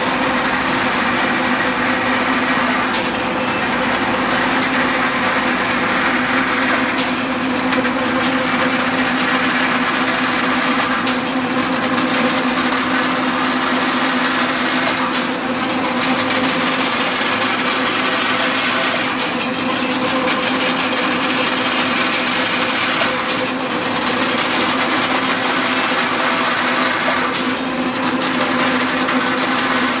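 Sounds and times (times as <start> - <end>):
machine mechanical hum: 0.0 - 30.0.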